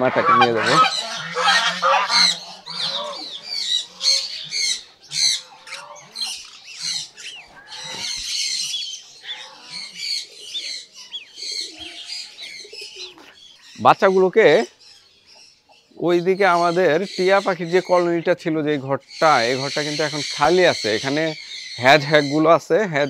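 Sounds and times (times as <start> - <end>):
goslings peeping: 0.0 - 23.0.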